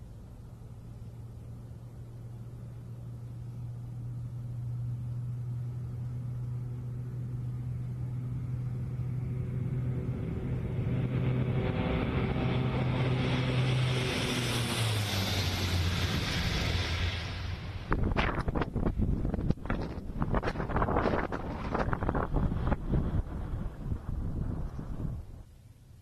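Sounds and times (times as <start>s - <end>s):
turboprop aircraft engines roaring: 0.0s - 26.0s.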